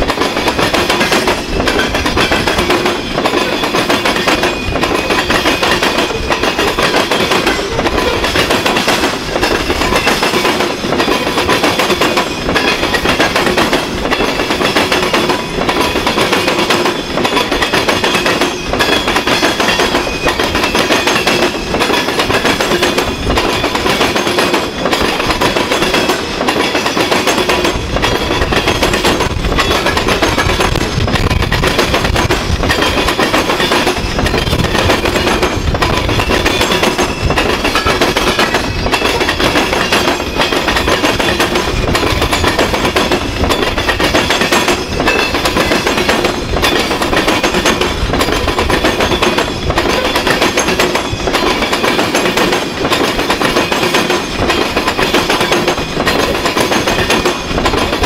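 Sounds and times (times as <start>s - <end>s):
steel wheels rumbling on rail: 0.0s - 58.0s
wheels clicking on rail joints: 0.0s - 58.0s.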